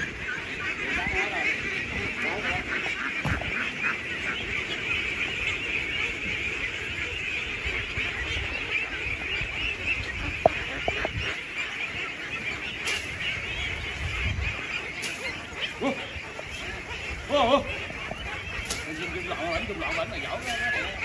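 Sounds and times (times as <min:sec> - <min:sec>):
flock of ducks calling: 0:00.0 - 0:21.0.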